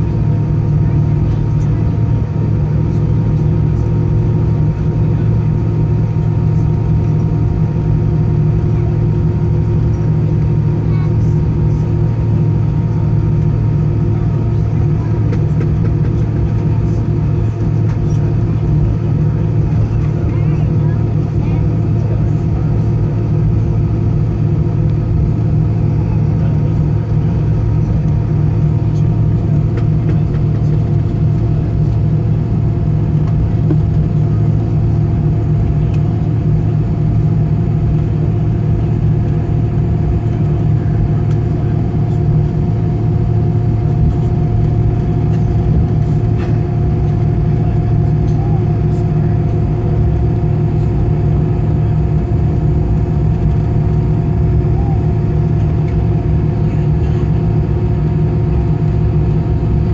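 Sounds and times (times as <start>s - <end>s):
aircraft cabin rumble: 0.0s - 59.9s
steady hums: 0.0s - 59.9s.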